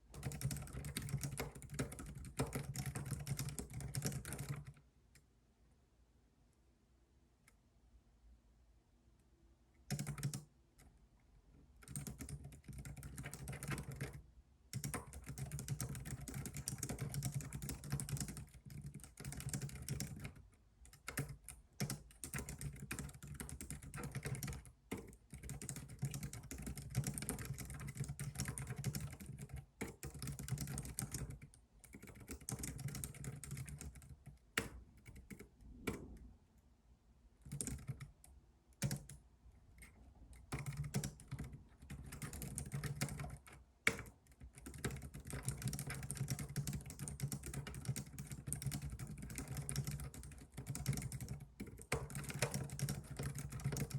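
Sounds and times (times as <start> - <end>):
computer keyboard typing: 0.1 - 4.8, 9.9 - 10.9, 11.8 - 36.2, 37.4 - 39.2, 39.8 - 53.9.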